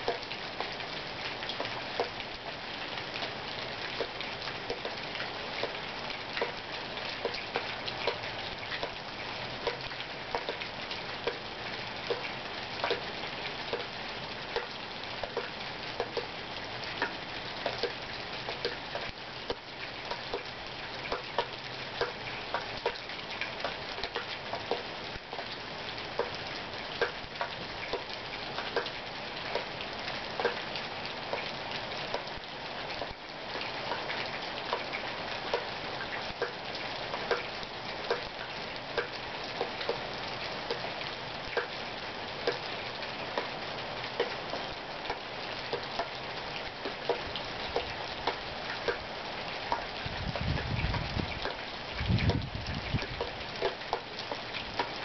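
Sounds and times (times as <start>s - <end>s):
rain falling: 0.0s - 55.0s
raindrops ticking on a surface: 0.0s - 55.0s.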